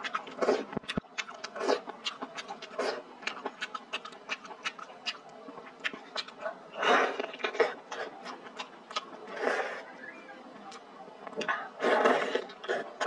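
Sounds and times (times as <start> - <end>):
wet chewing and slurping: 0.0 - 9.9, 10.7 - 13.0.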